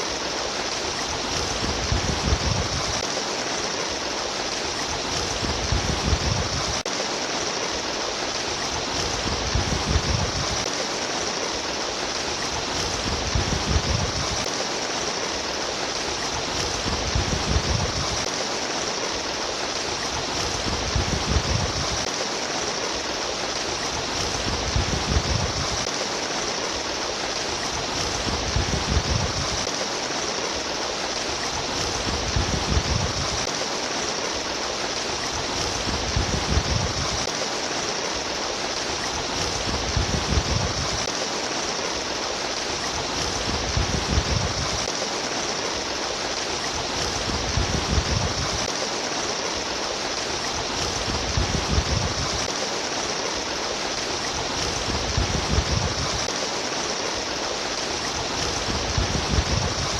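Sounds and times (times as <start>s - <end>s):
stream water splashing: 0.0s - 59.9s.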